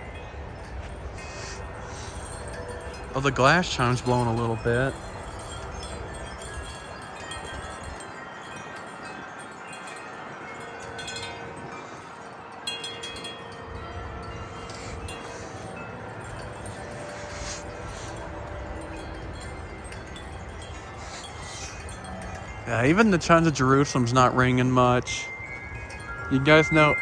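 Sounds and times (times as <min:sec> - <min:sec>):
wind chimes ringing: 0:00.0 - 0:27.0.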